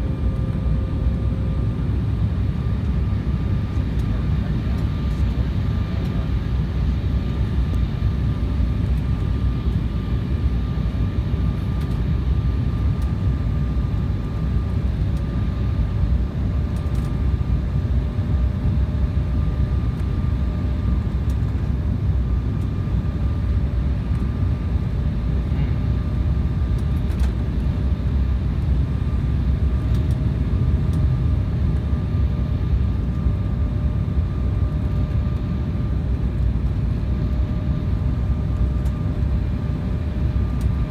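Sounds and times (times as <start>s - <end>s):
engine and airflow rumble: 0.0s - 40.9s.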